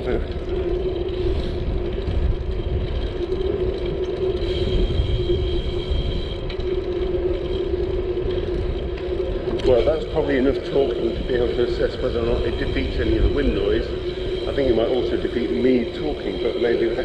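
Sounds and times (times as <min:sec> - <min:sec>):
bicycle road rumble: 0:00.0 - 0:17.0
muffled wind: 0:00.0 - 0:17.0
steady low hum: 0:00.0 - 0:17.0.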